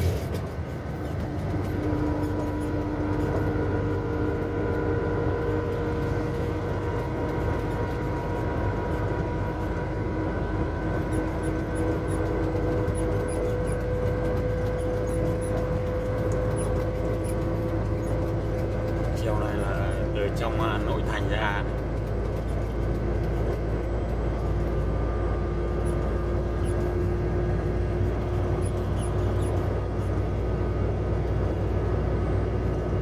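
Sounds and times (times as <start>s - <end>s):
engine drone: 0.0s - 33.0s
tyre road noise: 0.0s - 33.0s.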